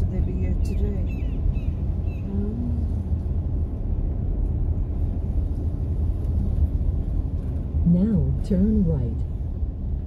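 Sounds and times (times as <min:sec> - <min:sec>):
car engine: 0:00.0 - 0:10.0
road noise: 0:00.0 - 0:10.0.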